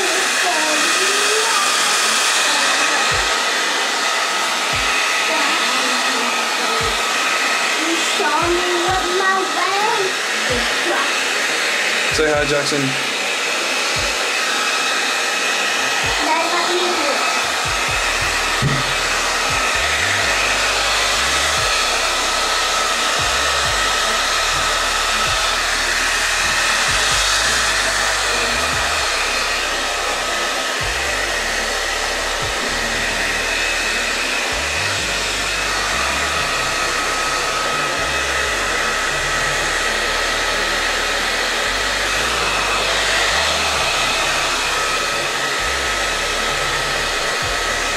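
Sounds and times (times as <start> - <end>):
blow dryer running: 0.0 - 47.9.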